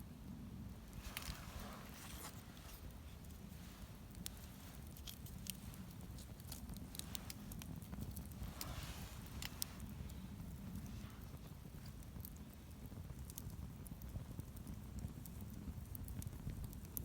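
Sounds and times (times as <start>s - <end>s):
low rumble of burning fire: 0.0s - 17.0s
campfire crackling and popping: 0.5s - 17.0s.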